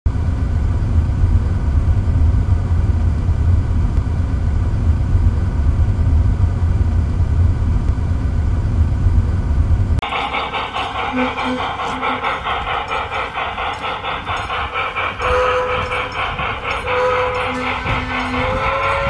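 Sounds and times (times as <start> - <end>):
deep rumble: 0.1 - 19.0.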